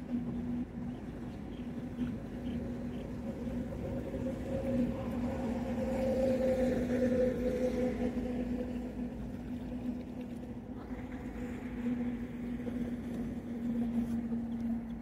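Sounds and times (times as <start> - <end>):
water sloshing and dripping: 0.0 - 15.0.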